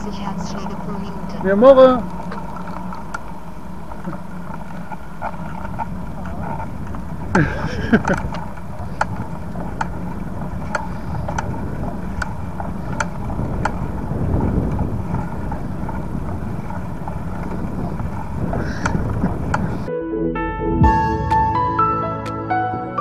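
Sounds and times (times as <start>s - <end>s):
rolling rumble of bicycle: 0.0s - 19.9s
wind: 0.0s - 19.9s.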